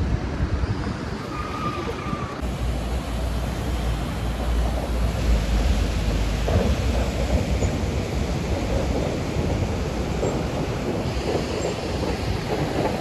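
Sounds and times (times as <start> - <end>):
wind buffeting microphone: 0.0 - 13.0
river rapids roaring: 1.1 - 13.0.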